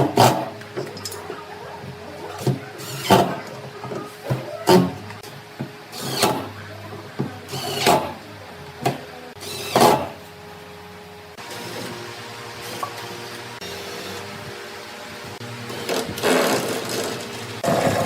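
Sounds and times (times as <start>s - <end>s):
machine running: 0.0s - 18.0s.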